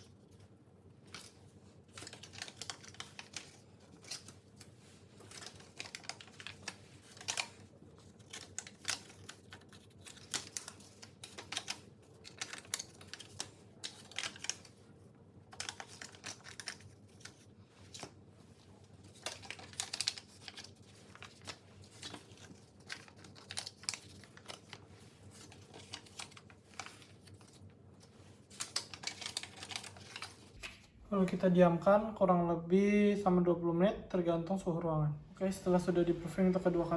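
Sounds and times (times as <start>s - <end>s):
plastic crinkling: 0.0s - 30.9s.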